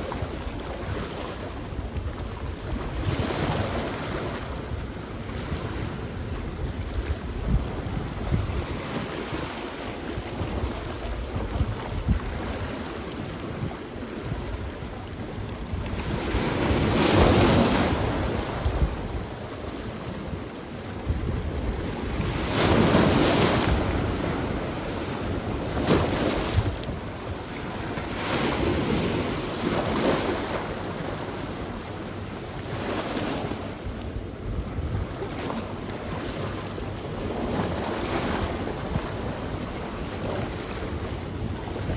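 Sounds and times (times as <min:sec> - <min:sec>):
sea waves washing onto beach: 0:00.0 - 0:41.9
wind buffeting microphone: 0:00.0 - 0:41.9.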